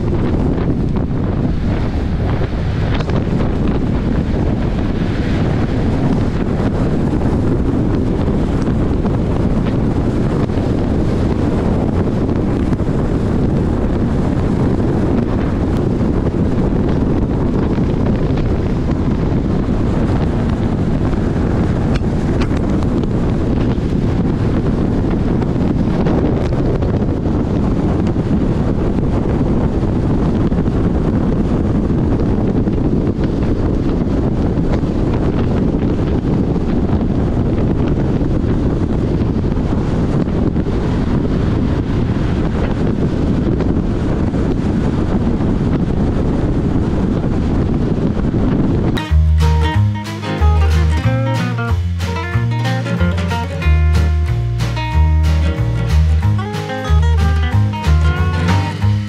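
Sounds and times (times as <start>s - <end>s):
car running noise: 0.0s - 49.8s
wind rushing over microphone: 0.0s - 59.0s.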